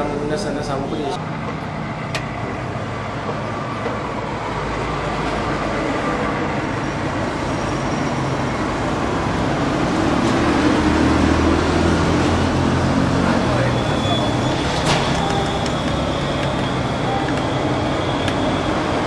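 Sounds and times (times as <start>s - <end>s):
vehicle rumble and hiss: 0.0s - 19.0s.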